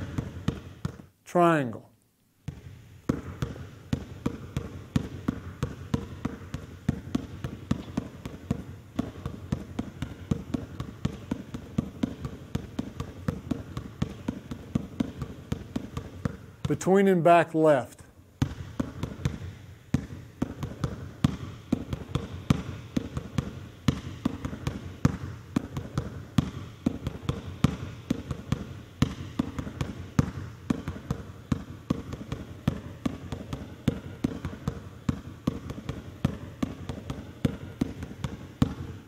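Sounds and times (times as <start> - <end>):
basketball bouncing on hardwood: 0.0 - 1.1, 2.4 - 17.1, 18.4 - 39.0.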